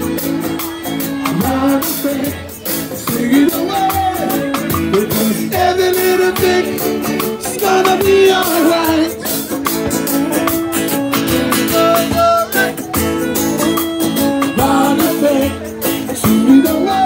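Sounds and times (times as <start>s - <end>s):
person singing: 0.0s - 10.7s, 11.3s - 17.0s
drum kit: 0.0s - 17.0s
guitar: 0.0s - 17.0s
hand drum: 0.0s - 17.0s.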